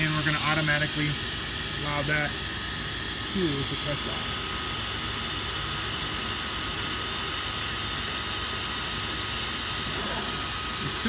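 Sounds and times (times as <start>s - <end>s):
vacuum system hissing: 0.0s - 11.0s.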